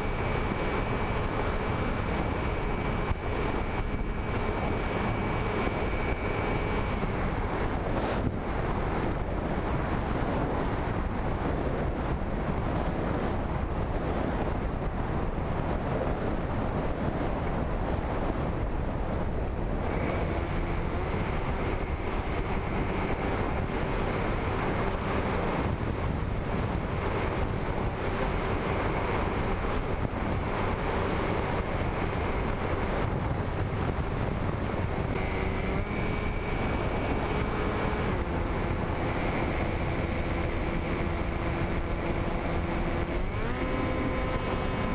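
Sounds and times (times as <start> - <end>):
propeller motor humming: 0.0 - 44.9
thin high whine: 0.0 - 44.9
wind rushing over camera: 0.0 - 44.9.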